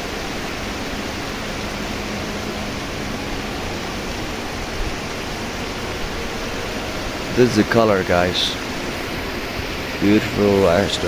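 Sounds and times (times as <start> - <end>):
fluttering low rumble: 0.0 - 11.0
steady rushing outdoor noise: 0.0 - 11.0.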